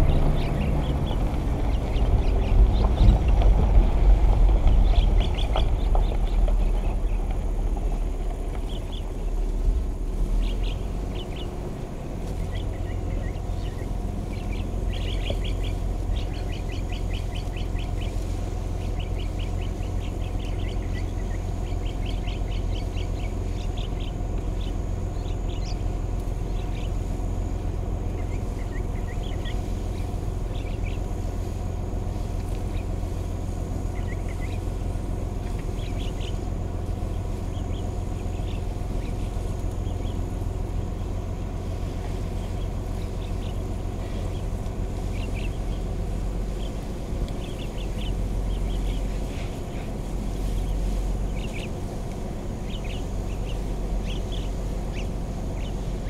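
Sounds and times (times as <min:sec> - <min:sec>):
birds chirping trills: 0:00.0 - 0:56.0
low rumble: 0:00.0 - 0:56.0.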